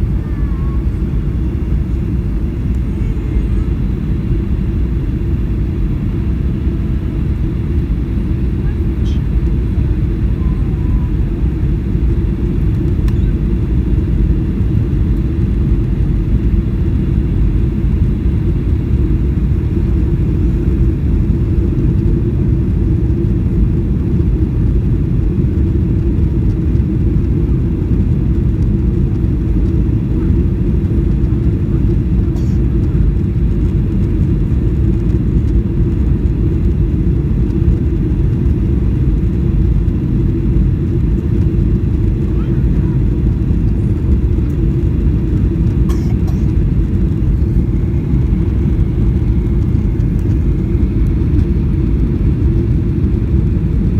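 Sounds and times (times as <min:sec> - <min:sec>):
jet engines rumbling: 0:00.0 - 0:53.9
rushing air in aircraft cabin: 0:00.0 - 0:53.9.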